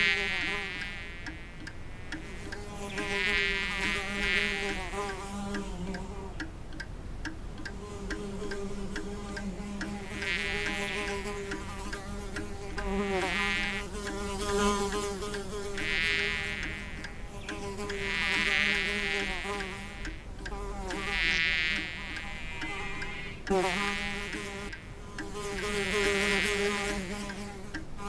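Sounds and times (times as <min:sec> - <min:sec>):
cartoon insect wing buzzing: 0:00.0 - 0:06.4, 0:07.7 - 0:28.0.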